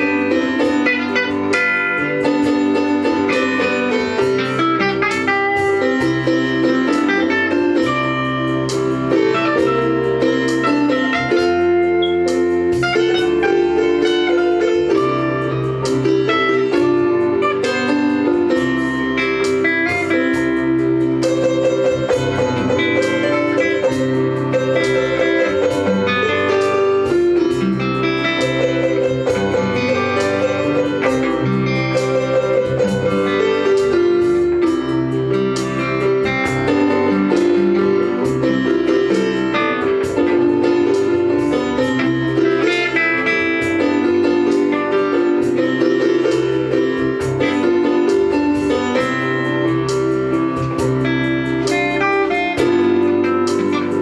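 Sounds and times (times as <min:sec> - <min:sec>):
electronic keyboard chords: 0:00.0 - 0:54.0
picked acoustic guitar: 0:00.0 - 0:54.0.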